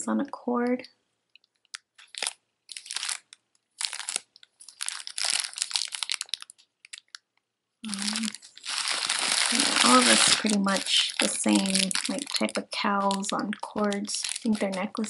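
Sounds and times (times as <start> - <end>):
plastic bags crinkling: 1.4 - 7.2, 7.8 - 15.0.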